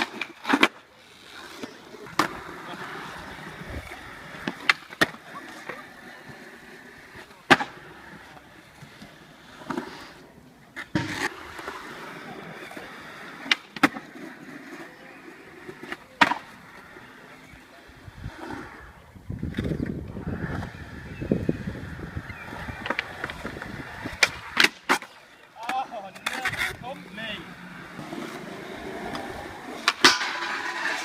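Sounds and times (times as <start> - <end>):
skateboard clacks: 0.0 - 18.8, 19.4 - 31.0
skateboard wheels rolling on concrete: 0.0 - 31.0.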